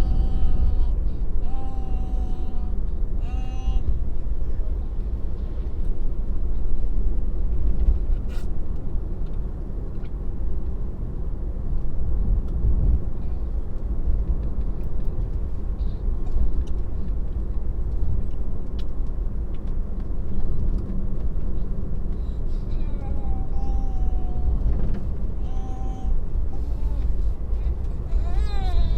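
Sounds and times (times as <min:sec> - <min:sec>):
road and tyre rumble in car: 0:00.0 - 0:28.9.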